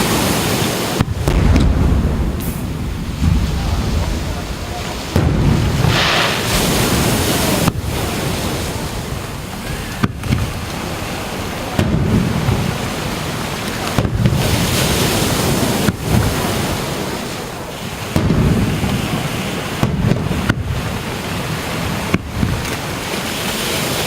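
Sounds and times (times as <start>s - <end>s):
sea surf rushing: 0.0s - 24.0s
wind on microphone: 0.0s - 24.0s.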